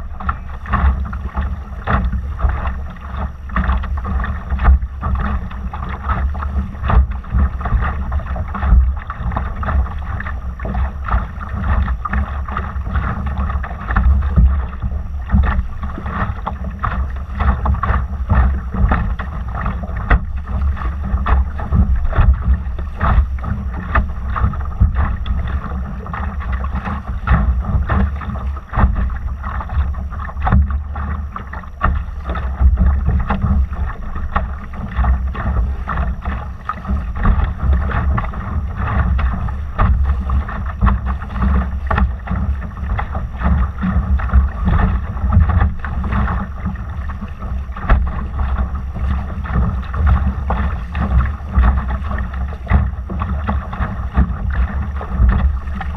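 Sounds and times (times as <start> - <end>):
water slapping against hull: 0.0 - 55.9
wind rumble on microphone: 0.0 - 55.9.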